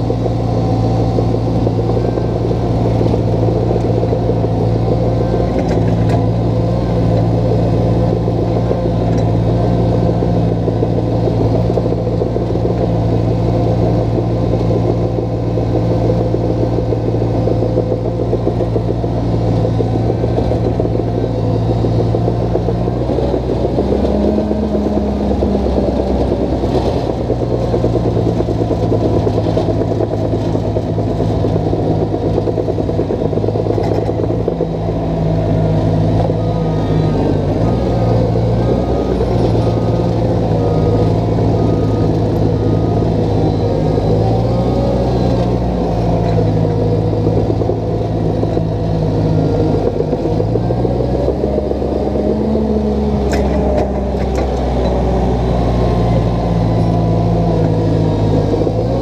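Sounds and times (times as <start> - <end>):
dozer diesel engine running: 0.0 - 59.0.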